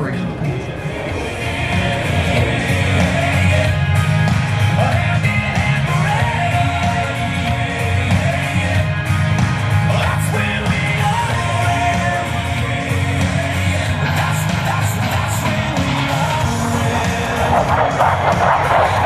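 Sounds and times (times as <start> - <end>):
jet aircraft roar: 0.0 - 19.0
rock music with singing: 0.0 - 19.0.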